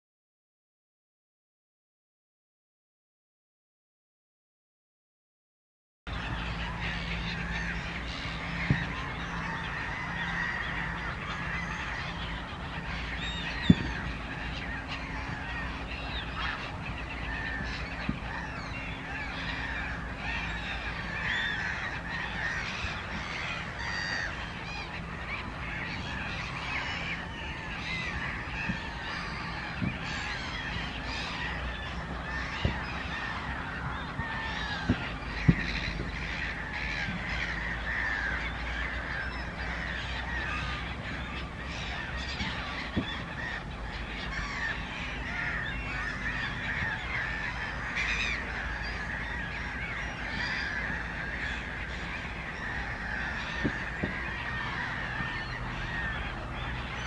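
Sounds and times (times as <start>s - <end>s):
waterbirds honking: 6.1s - 57.0s.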